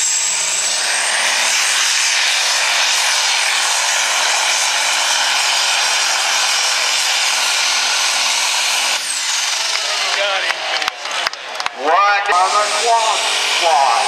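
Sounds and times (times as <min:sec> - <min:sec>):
tractor diesel engine at full load: 0:00.0 - 0:14.0.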